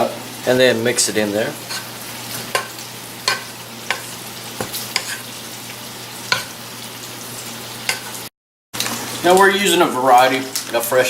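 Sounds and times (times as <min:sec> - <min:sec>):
meat sizzling in a pan: 0:00.0 - 0:10.7.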